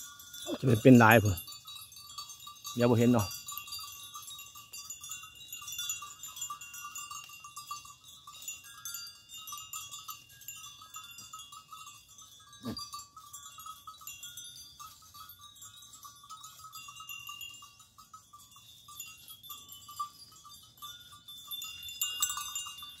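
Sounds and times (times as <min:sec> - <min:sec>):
goat bells clinking: 0:00.0 - 0:23.0.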